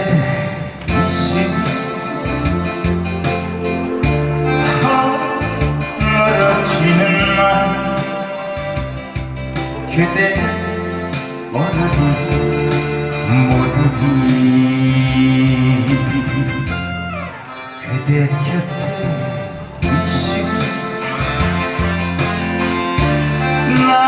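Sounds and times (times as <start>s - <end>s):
man singing into a microphone: 0.0s - 16.8s, 17.5s - 22.3s, 23.4s - 24.0s
karaoke backing track with bass: 0.0s - 24.0s.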